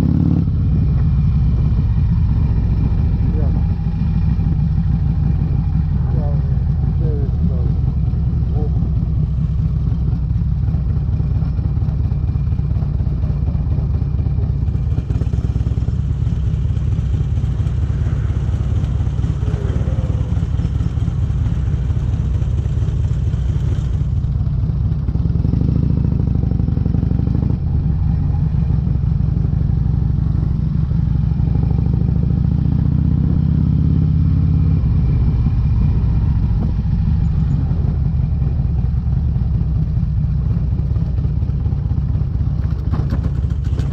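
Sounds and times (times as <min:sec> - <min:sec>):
motorcycle exhaust rumble: 0:00.0 - 0:43.9.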